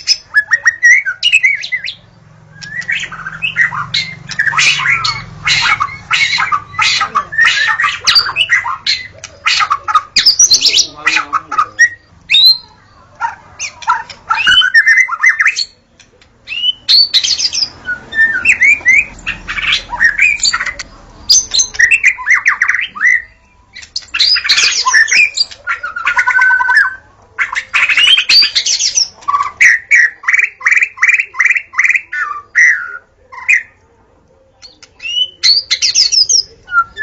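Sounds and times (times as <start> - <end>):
songbird singing whistles and trills: 0.0 - 10.9, 11.5 - 12.8, 13.6 - 33.8, 34.6 - 37.0.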